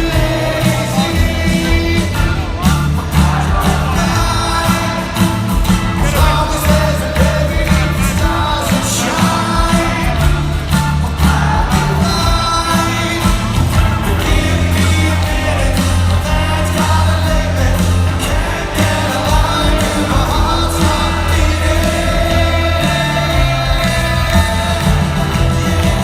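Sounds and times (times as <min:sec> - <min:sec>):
person singing: 0:00.0 - 0:26.0
rock band playing live: 0:00.0 - 0:26.0.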